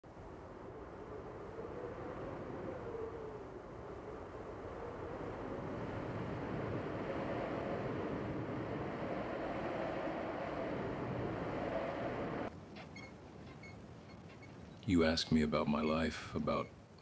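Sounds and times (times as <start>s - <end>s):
rushing wind with faint howl: 0.0s - 17.0s.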